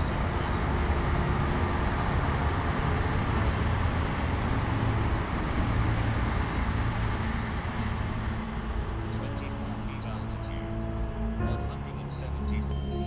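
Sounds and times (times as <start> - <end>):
low hum: 0.0 - 13.0
train wheels rumbling on rails: 0.0 - 13.0.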